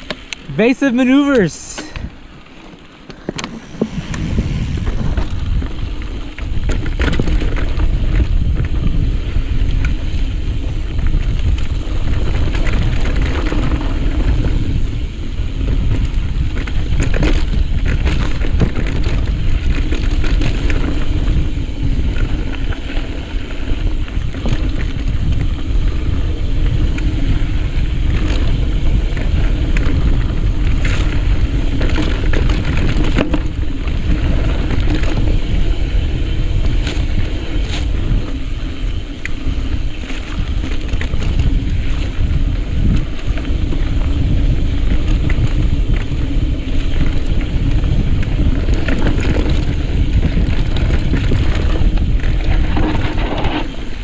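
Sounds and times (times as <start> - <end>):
mountain bike rattling on rocks: 0.0 - 54.0
wind on microphone: 0.0 - 54.0.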